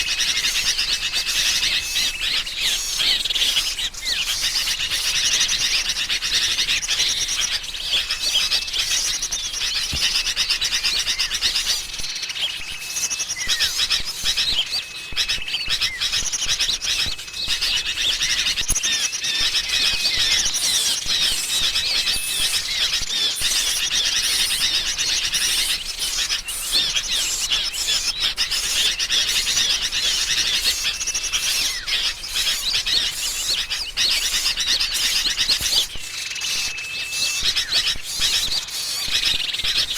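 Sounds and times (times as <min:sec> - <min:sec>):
birds chattering and scolding: 0:00.0 - 0:39.9.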